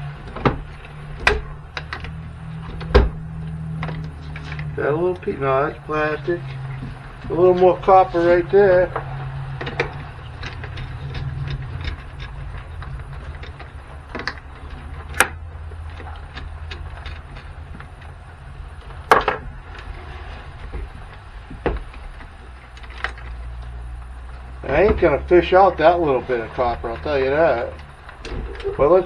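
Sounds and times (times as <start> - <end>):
hand tools clicking and clinking: 0.0 - 29.0
steady low hum: 0.0 - 29.0.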